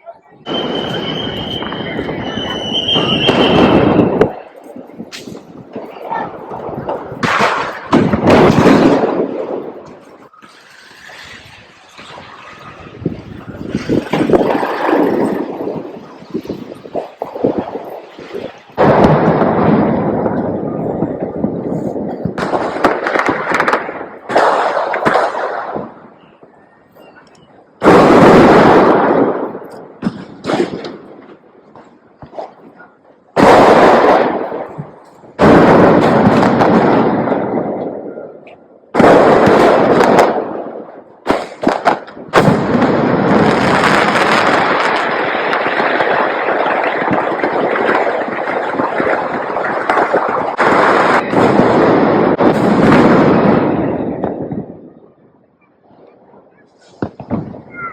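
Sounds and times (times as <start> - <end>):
fireworks crackling bangs: 0.0 - 55.5, 56.3 - 57.9.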